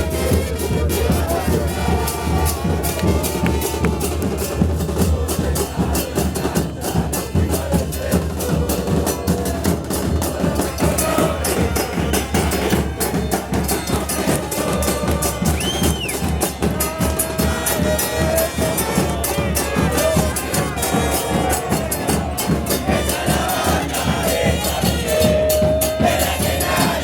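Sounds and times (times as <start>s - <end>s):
drum band beating fast rhythm: 0.0s - 27.0s.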